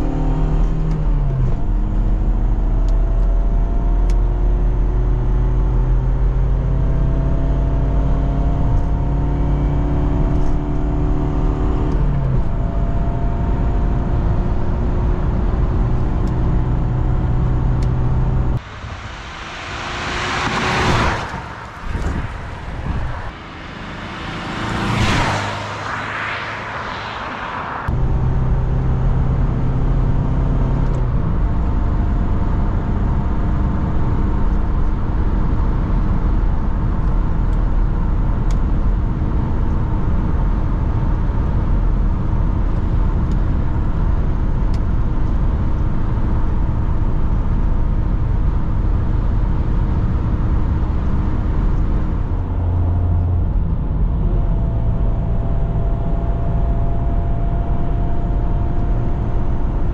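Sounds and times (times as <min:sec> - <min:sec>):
car engine hum: 0:00.0 - 0:59.9
tyre and wind road roar: 0:00.0 - 0:59.9.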